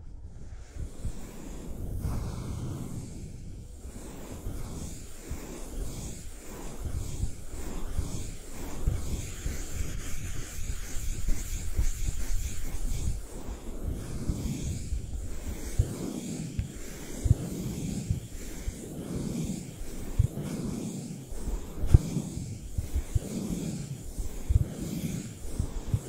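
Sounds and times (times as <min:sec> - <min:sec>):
brush scratching on microphone: 0:04.0 - 0:26.0.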